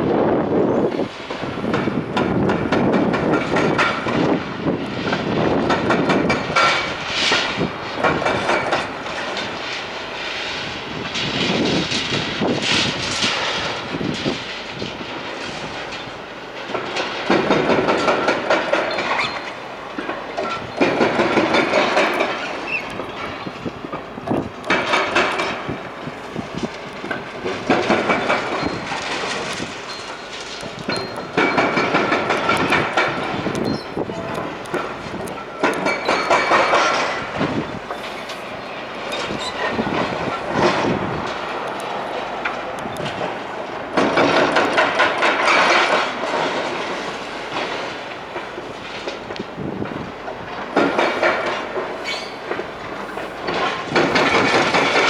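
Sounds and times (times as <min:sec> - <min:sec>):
rubble and metal crunching: 0:01.3 - 0:55.0.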